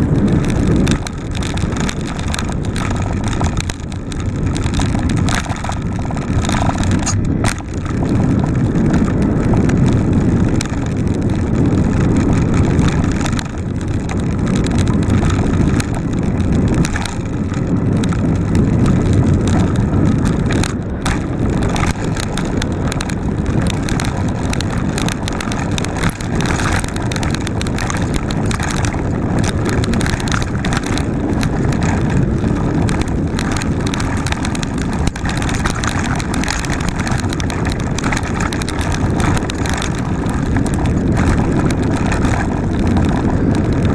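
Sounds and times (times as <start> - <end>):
bike rattles and knocks: 0.0 - 43.9
bike tyres rumbling on dirt: 0.0 - 43.9
wind buffeting microphone: 0.0 - 43.9.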